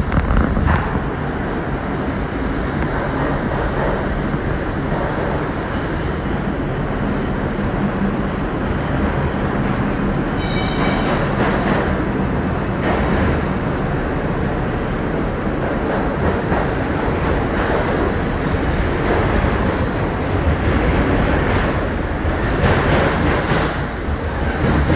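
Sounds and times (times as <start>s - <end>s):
subway train rumbling on track: 0.0s - 24.9s.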